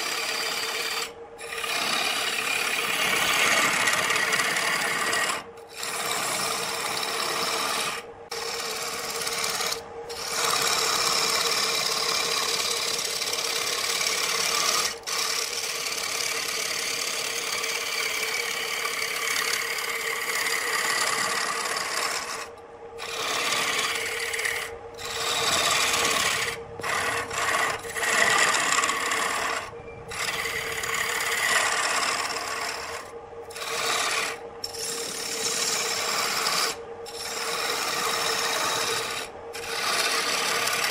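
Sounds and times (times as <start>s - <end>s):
turning tool cutting wood: 0.0s - 40.9s
wood lathe humming: 0.0s - 40.9s.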